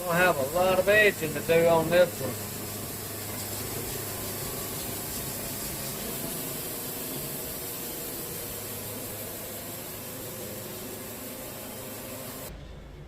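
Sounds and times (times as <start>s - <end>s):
band saw blade cutting log: 0.0s - 12.5s
sawmill engine hum: 0.0s - 12.5s.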